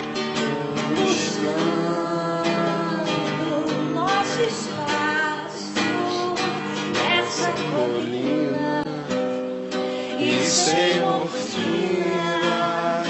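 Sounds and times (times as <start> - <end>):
strummed acoustic guitar: 0.0 - 13.0
woman singing: 0.6 - 9.2, 10.0 - 13.0.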